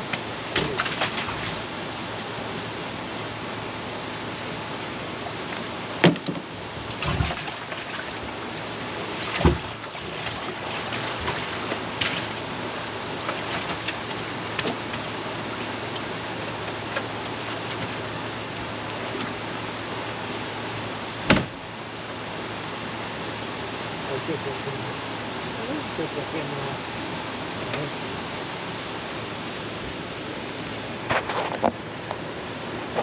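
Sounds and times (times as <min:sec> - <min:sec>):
flowing river water: 0:00.0 - 0:33.0.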